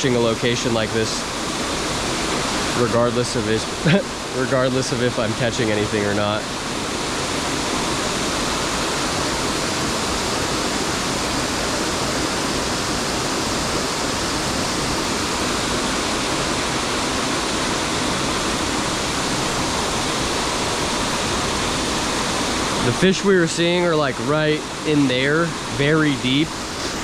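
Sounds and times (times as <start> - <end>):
waterfall and river rushing: 0.0 - 27.0.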